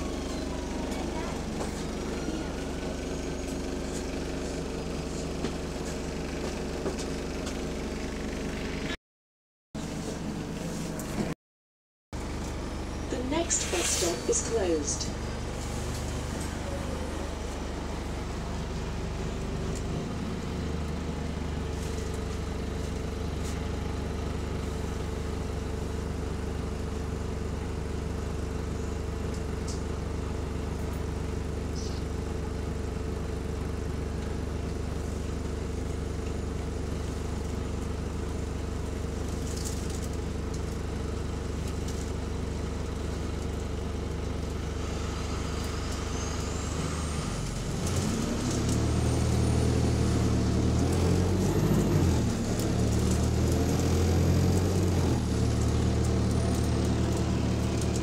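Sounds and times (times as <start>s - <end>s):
diesel bus engine idling: 0.0s - 9.0s, 12.2s - 58.0s.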